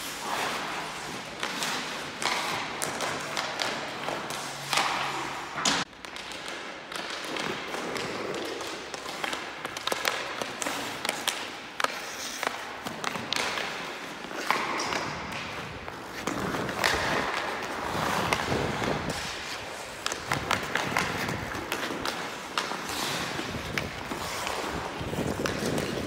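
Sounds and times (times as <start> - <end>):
skate blades scraping ice: 0.0 - 26.0
stick striking pucks: 0.0 - 26.0.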